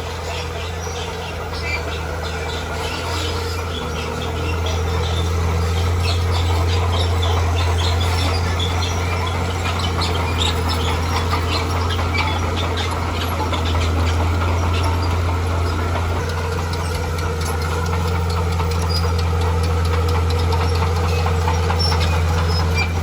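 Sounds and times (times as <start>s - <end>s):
birds chirping: 0.0s - 23.0s
diesel engine droning: 0.0s - 23.0s.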